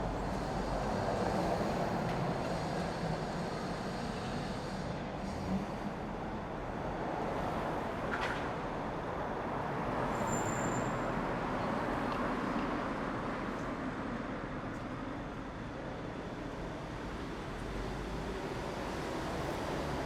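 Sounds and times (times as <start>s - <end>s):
passing road traffic: 0.0s - 20.0s.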